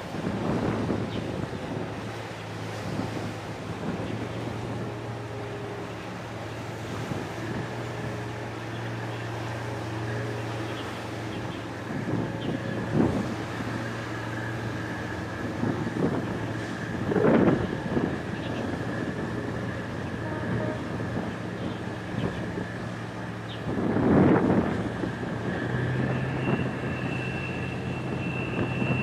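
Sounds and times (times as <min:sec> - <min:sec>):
ship diesel engines droning: 0:00.0 - 0:29.0
wind buffeting microphone: 0:00.0 - 0:29.0.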